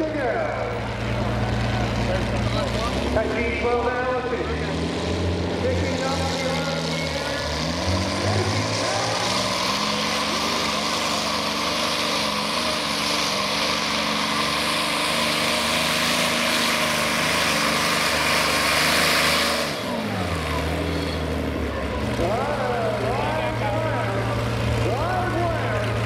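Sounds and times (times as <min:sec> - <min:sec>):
tractor engine roaring: 0:00.0 - 0:26.0.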